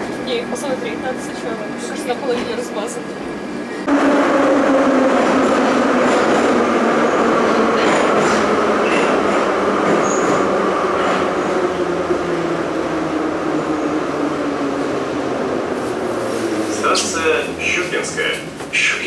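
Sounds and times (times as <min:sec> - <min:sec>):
train whine gliding lower: 0:00.0 - 0:18.4
metro train rumbling: 0:00.0 - 0:19.0.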